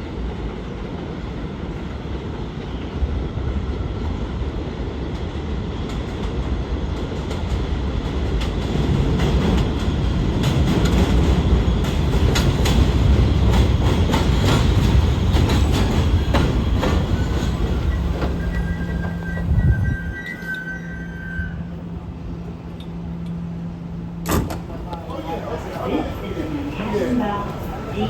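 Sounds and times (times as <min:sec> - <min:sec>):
subway train rumble: 0:00.0 - 0:28.0.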